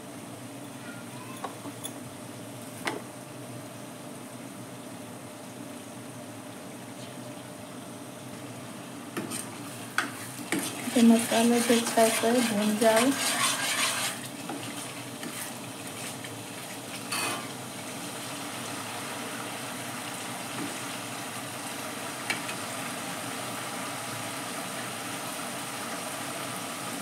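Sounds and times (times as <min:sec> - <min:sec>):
spices sizzling in oil: 0:04.2 - 0:27.0.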